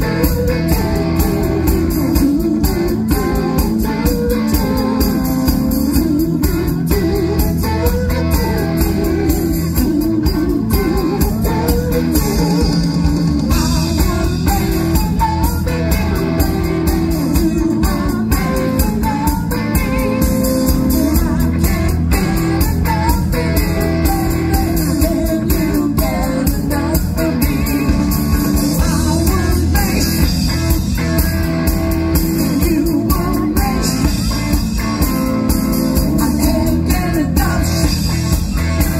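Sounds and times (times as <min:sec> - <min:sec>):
person singing: 0:00.0 - 0:31.2, 0:31.9 - 0:38.9
live rock band playing: 0:00.0 - 0:38.9.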